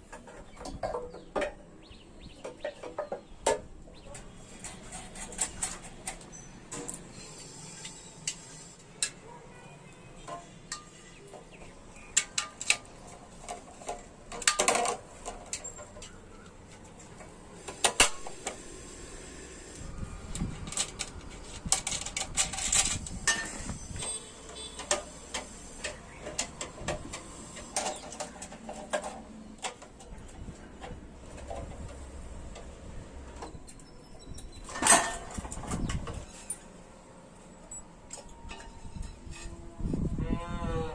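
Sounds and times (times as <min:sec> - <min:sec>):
hand tools and metal parts clinking: 0:00.0 - 0:39.8.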